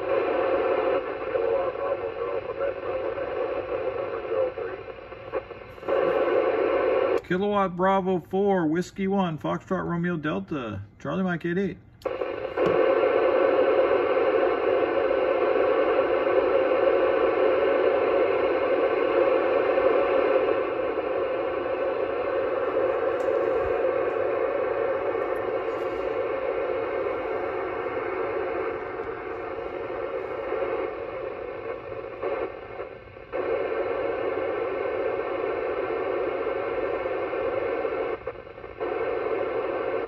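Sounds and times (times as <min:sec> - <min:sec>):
noisy radio signal with faint buzz: 0:00.0 - 0:40.0.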